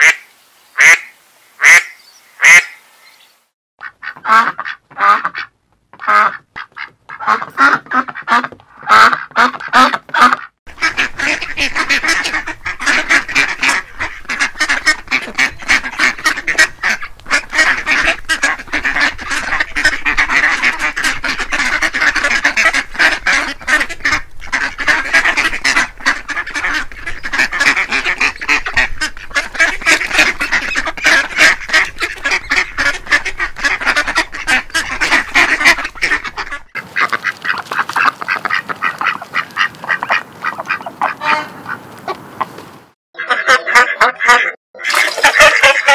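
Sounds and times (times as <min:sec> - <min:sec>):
flock of ducks quacking: 0:00.0 - 0:02.8, 0:03.8 - 0:42.6, 0:43.2 - 0:45.9.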